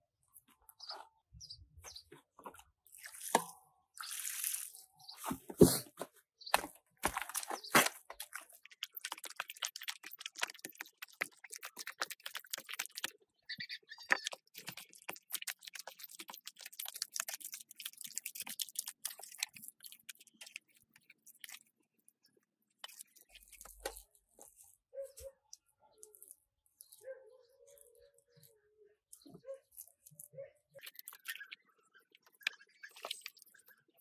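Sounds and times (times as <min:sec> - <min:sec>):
hands squishing wet clay: 0:01.8 - 0:05.8, 0:06.5 - 0:34.0.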